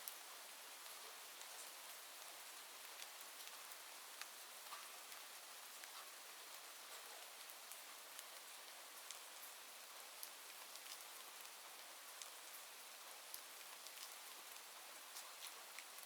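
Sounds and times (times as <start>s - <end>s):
faint rain hiss: 0.0s - 16.0s.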